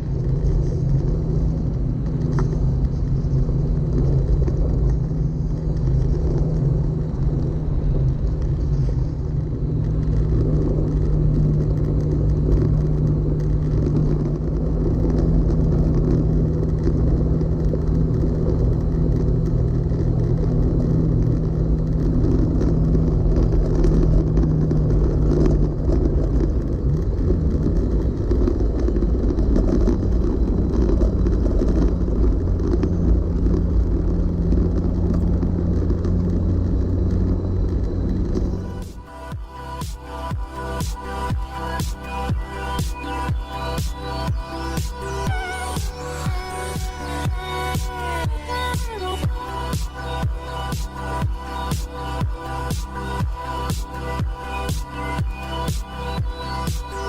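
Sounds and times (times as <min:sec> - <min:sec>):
road noise on dirt trail: 0:00.0 - 0:57.0
vehicle engine running: 0:00.0 - 0:57.0.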